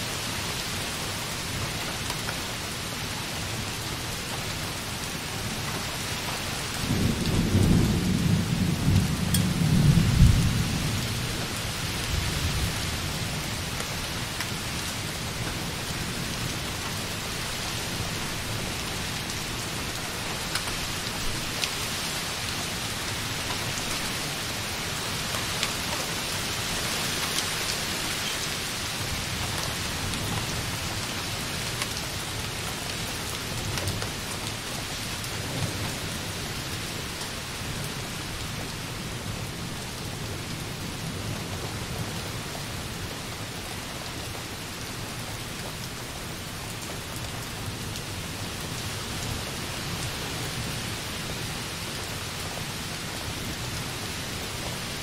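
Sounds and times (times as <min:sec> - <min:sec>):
rain on window glass: 0:00.2 - 0:55.0.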